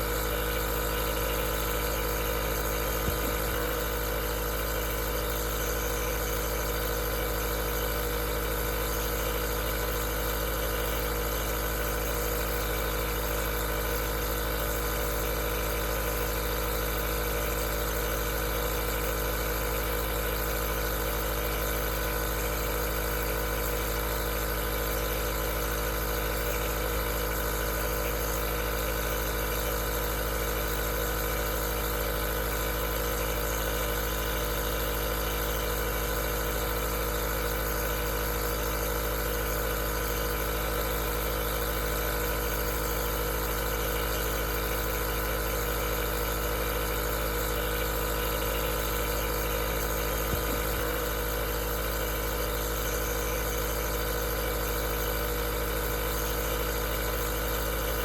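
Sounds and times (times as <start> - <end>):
nebulizer compressor humming: 0.0 - 58.0.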